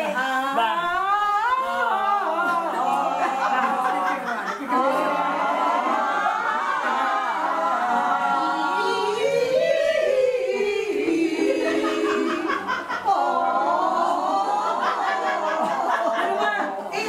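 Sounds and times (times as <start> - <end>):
women singing unaccompanied: 0.0 - 17.0.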